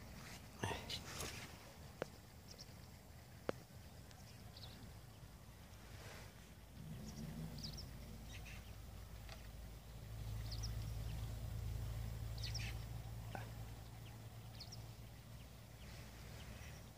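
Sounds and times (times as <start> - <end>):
birds chirping: 0.0 - 16.9
low steady rumble: 0.0 - 16.9.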